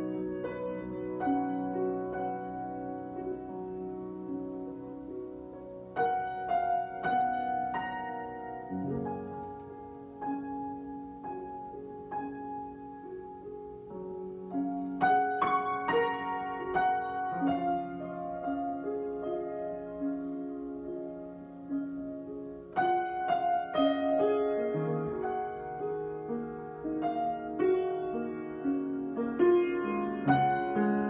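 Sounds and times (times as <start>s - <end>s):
solo piano: 0.0s - 31.0s.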